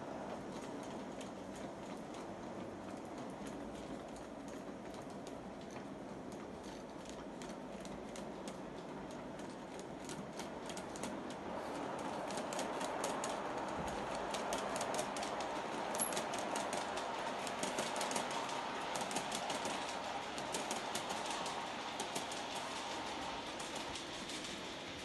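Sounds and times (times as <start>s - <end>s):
train wheels clicking over rail joints: 0.3s - 25.0s.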